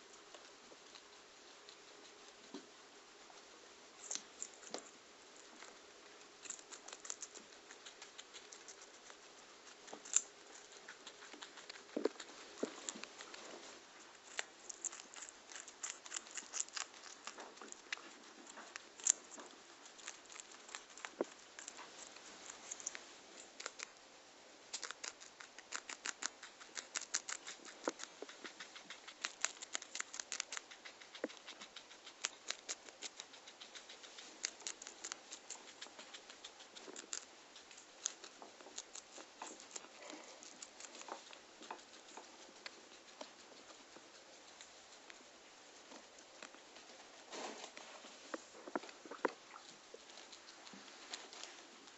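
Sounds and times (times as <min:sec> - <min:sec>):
guinea pig crunching pepper: 0:00.0 - 0:51.9.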